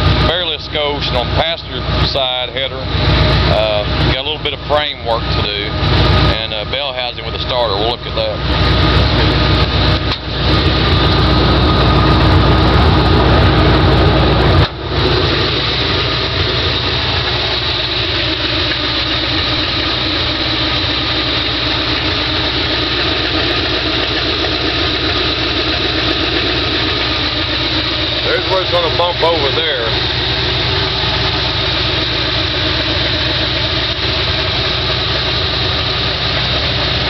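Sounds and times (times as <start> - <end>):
loud deep engine exhaust: 0.0 - 37.0.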